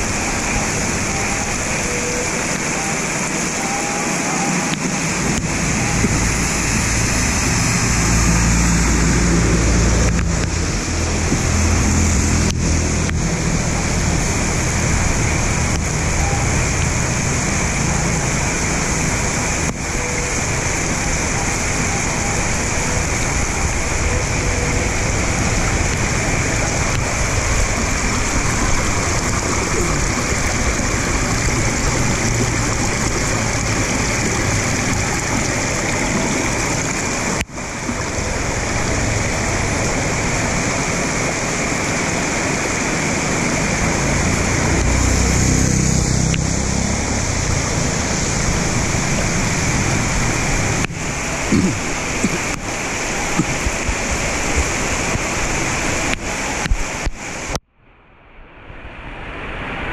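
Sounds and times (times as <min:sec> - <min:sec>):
rainwater rushing into a pipe: 0:00.0 - 0:57.6.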